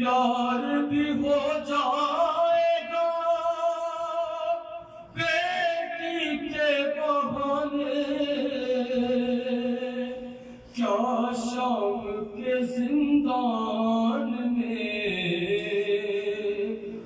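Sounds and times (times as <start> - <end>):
man singing unaccompanied: 0.0 - 10.2, 10.8 - 17.0.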